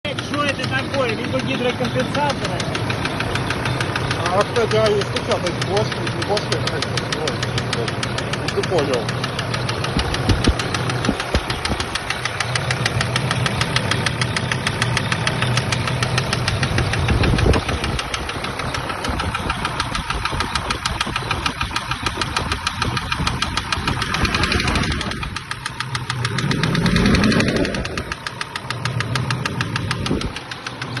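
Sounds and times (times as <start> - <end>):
engine running with rapid knock: 0.0 - 31.0.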